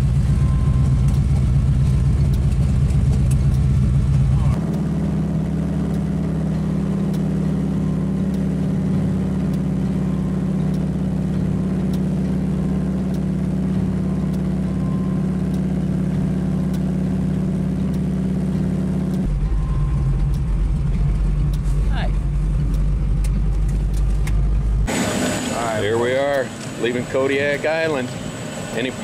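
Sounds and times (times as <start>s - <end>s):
plane engine and propeller: 0.0s - 29.0s.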